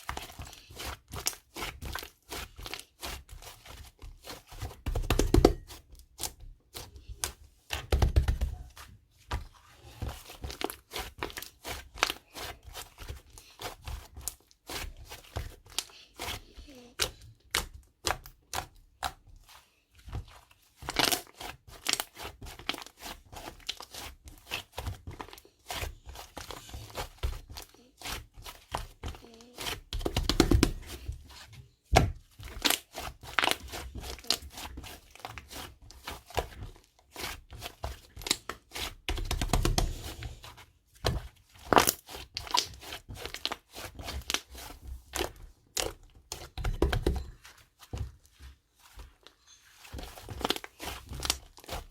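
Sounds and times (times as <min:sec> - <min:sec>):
slime squishing and crackling: 0:00.0 - 0:51.9.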